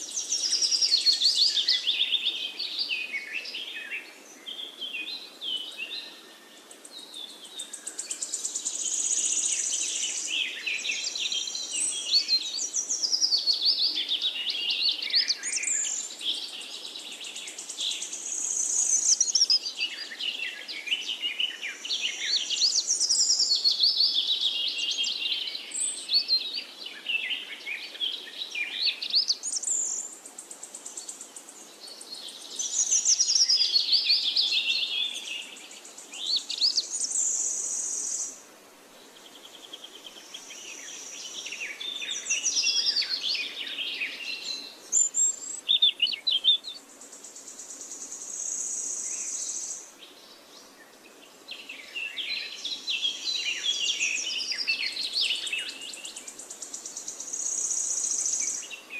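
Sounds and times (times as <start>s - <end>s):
birds chirping and singing: 0.0s - 38.3s, 39.4s - 58.9s.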